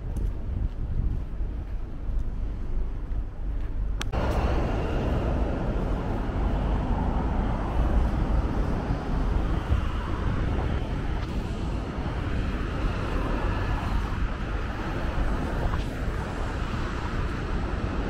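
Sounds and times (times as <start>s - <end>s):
road traffic passing: 0.0s - 18.0s
wind rumble on microphone: 0.0s - 18.0s.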